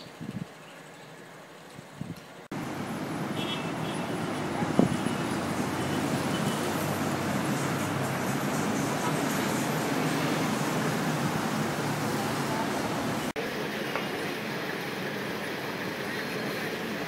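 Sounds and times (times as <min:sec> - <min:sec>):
passing traffic: 0:00.3 - 0:17.0.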